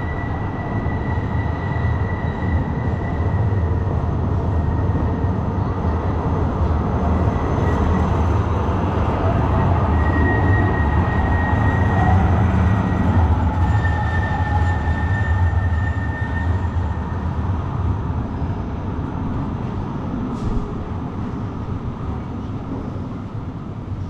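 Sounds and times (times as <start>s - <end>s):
tram rumbling: 0.0s - 24.0s.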